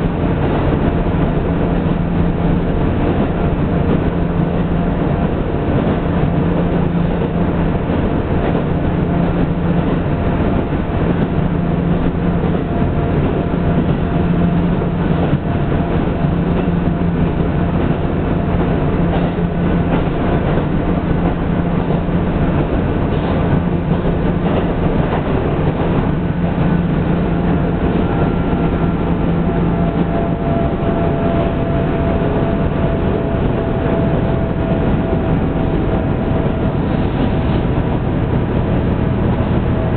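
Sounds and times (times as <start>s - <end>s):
diesel engine drone: 0.0s - 39.9s
wheels rumbling on rails: 0.0s - 39.9s.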